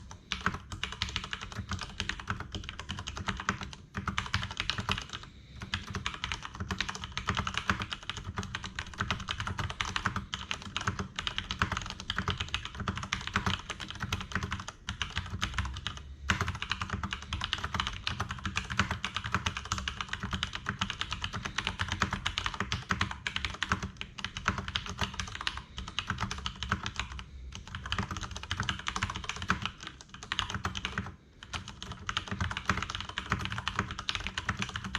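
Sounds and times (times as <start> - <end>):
fast mechanical keyboard typing: 0.0 - 34.9.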